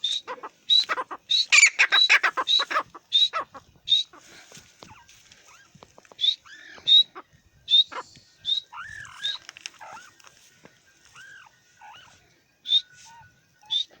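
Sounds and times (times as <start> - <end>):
francolin calling: 0.0 - 14.0.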